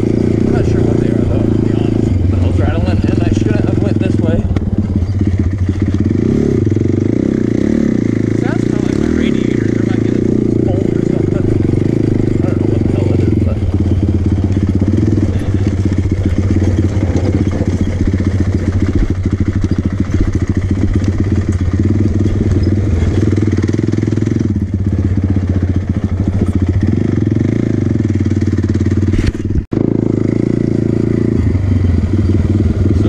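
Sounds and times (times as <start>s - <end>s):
quad bike engine revving: 0.0s - 33.0s.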